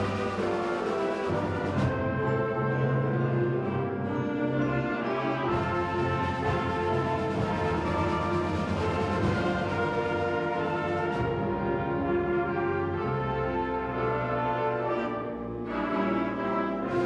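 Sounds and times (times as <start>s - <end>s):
brass sustained chords: 0.0s - 17.0s
wind ensemble playing: 0.0s - 17.0s.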